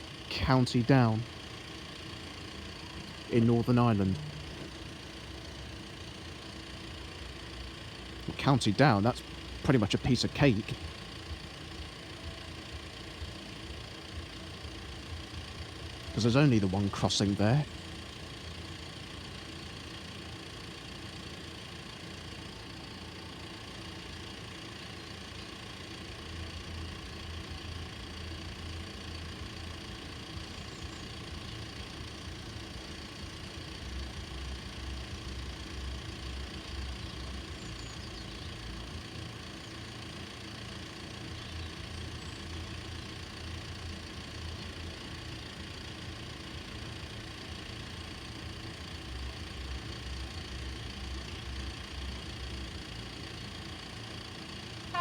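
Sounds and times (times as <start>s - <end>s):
motor engine idling: 0.0s - 55.0s.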